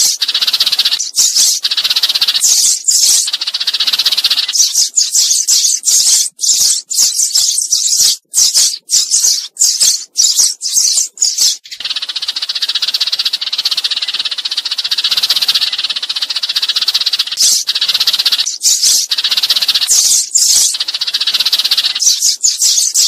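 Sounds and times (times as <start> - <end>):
sparrow decoy call chirps: 0.0 - 23.0.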